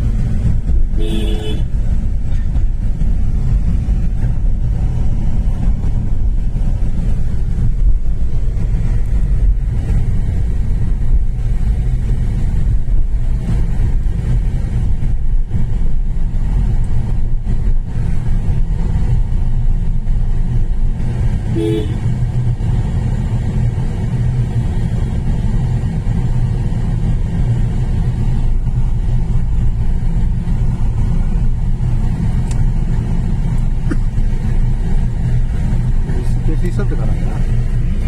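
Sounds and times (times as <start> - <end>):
road vehicle rumble: 0.0 - 38.0.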